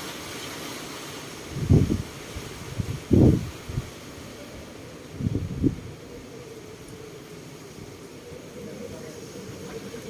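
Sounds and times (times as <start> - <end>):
strong wind hissing: 0.0 - 10.0
wind buffeting microphone: 1.4 - 10.0.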